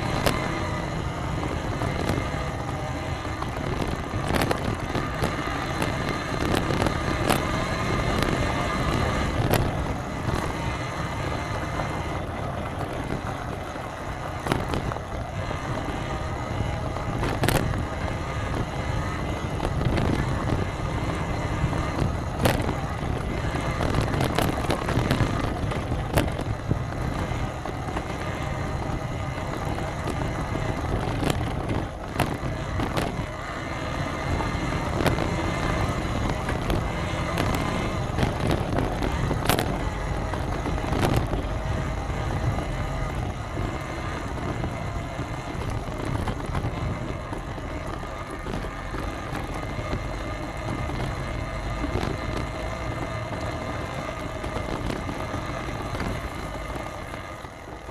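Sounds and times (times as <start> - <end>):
vehicle rumbling: 0.0 - 57.9.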